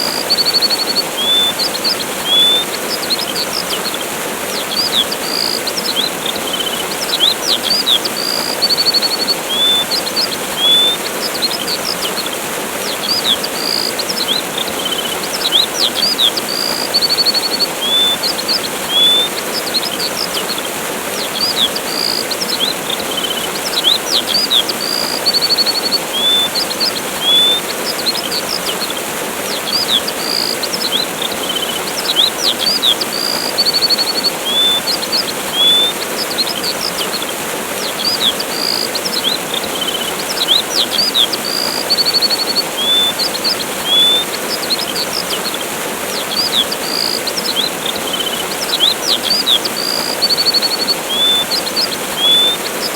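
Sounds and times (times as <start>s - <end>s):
small birds chirping: 0.0s - 52.9s
waterfall rushing: 0.0s - 52.9s.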